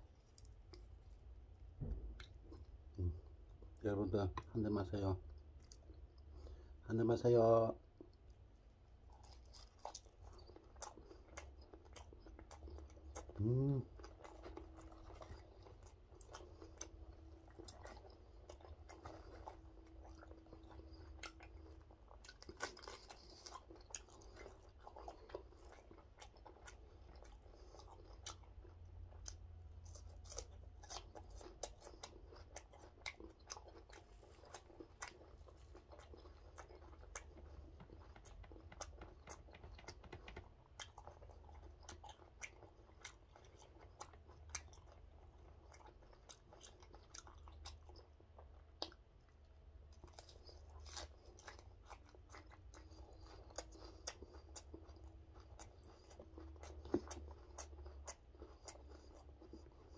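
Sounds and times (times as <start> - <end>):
man chewing wetly: 0.0 - 6.8, 7.8 - 59.9
low steady hum: 0.0 - 59.9.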